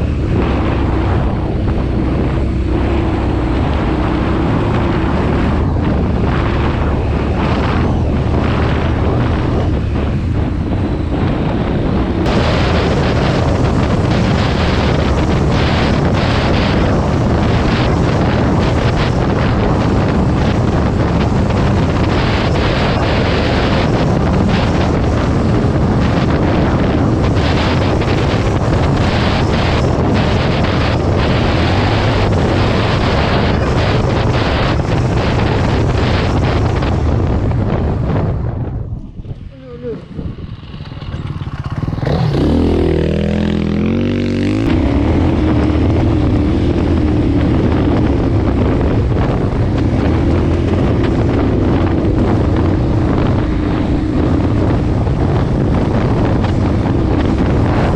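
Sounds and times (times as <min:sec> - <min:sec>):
motorcycle engine running: 0:00.0 - 0:57.9
wind buffeting microphone: 0:00.0 - 0:57.9.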